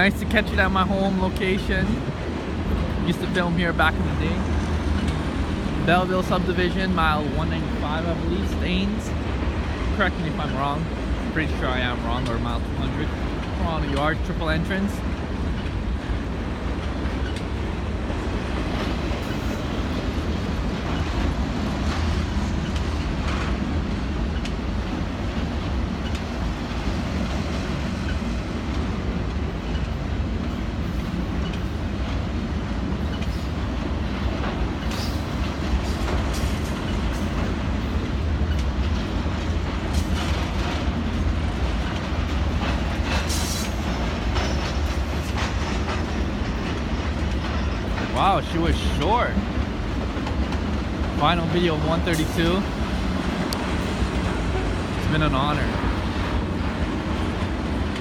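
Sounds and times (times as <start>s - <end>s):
train wheels rumbling on rails: 0.0s - 58.0s
wheels clacking over rail joints: 0.0s - 58.0s.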